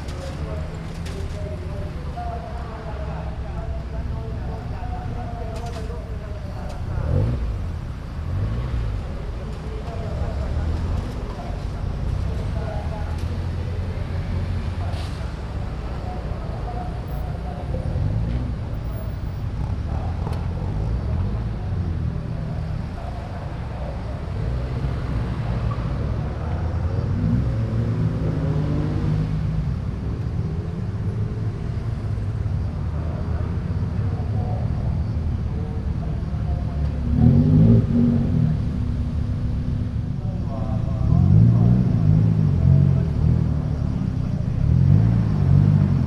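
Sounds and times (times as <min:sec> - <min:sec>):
car engines revving: 0:00.0 - 0:46.0
loud car engine: 0:00.0 - 0:46.0.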